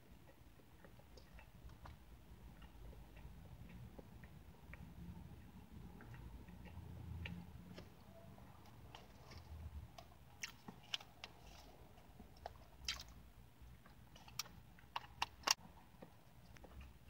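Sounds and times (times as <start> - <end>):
chewing and biting pie: 0.0 - 17.0.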